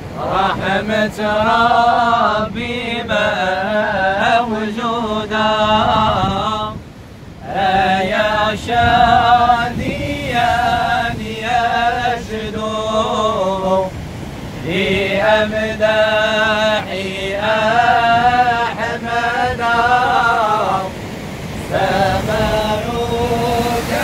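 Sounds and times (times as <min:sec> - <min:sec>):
men singing unaccompanied chant: 0:00.0 - 0:24.0.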